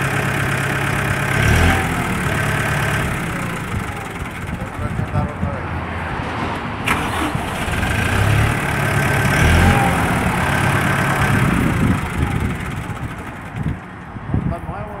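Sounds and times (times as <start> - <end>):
tractor diesel engine running: 0.0 - 5.9, 6.8 - 15.0.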